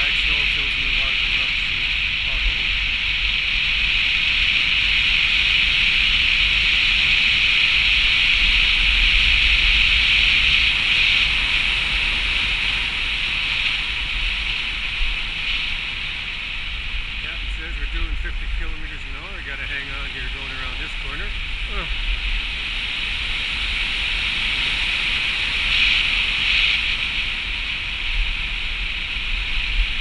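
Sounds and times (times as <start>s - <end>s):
low road rumble: 0.0s - 30.0s.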